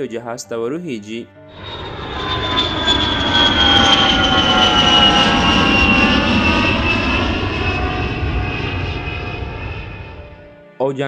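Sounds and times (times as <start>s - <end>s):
aircraft engine rumble and whine: 1.4s - 10.6s.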